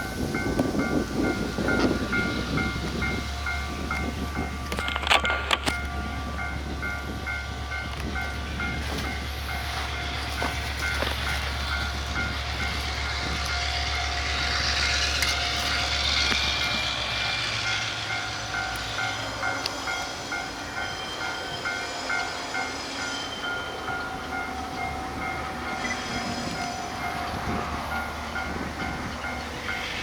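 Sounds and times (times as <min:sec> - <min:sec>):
locomotive low hum: 0:00.0 - 0:30.0.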